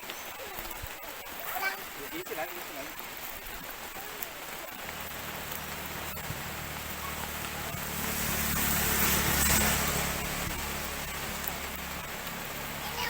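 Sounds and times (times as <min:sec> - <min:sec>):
drizzling rain: 0:00.0 - 0:13.0.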